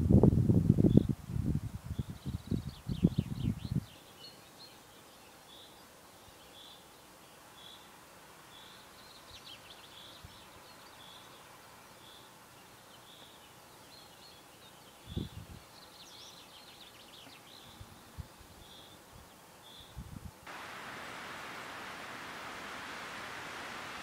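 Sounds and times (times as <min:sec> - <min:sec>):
soft steady hiss: 0:00.0 - 0:24.0
faint birdsong: 0:01.9 - 0:24.0.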